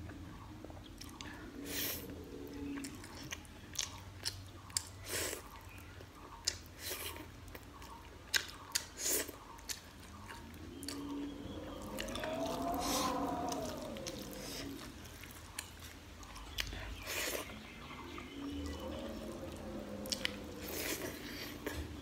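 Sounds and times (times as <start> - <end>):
close chewing: 0.6 - 22.0.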